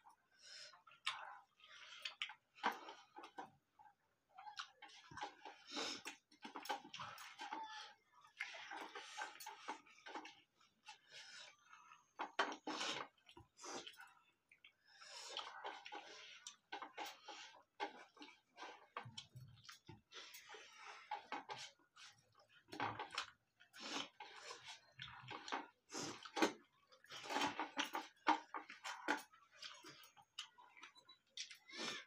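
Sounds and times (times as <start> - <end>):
chewing and mouth sounds: 0.5 - 32.0.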